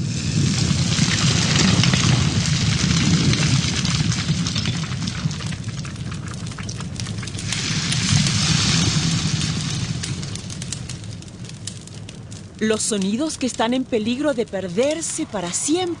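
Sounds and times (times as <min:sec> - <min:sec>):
fire crackling and hissing: 0:00.0 - 0:16.0.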